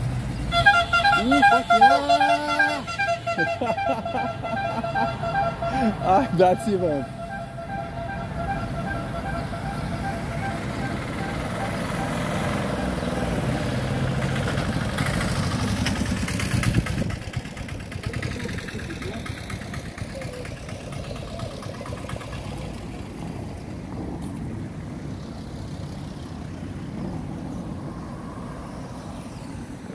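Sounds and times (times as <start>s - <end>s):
cars driving past: 0.0s - 29.9s.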